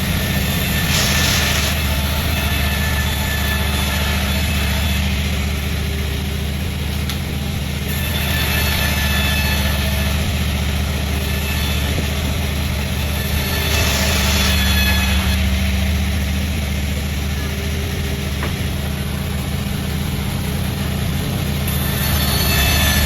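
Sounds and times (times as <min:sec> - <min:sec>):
bright hiss: 0:00.0 - 0:23.0
sawmill engine running: 0:00.0 - 0:23.0.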